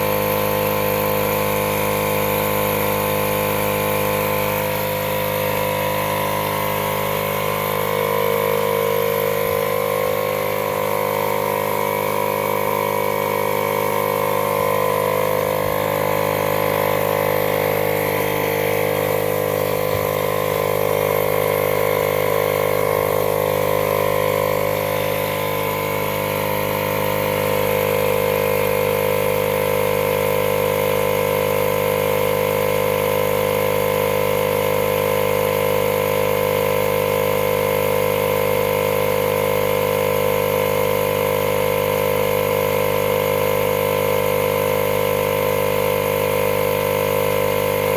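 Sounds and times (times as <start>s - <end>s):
air compressor humming: 0.0s - 47.9s.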